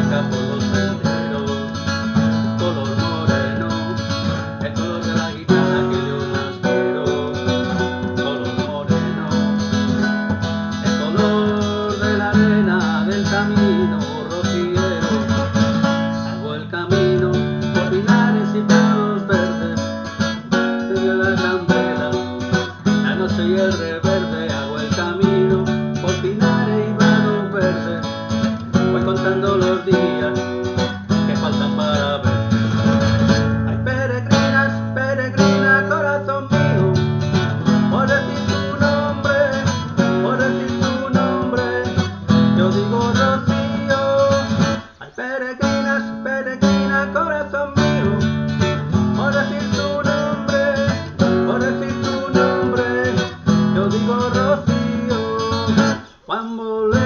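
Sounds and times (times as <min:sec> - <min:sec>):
strummed acoustic guitar music: 0:00.0 - 0:57.0.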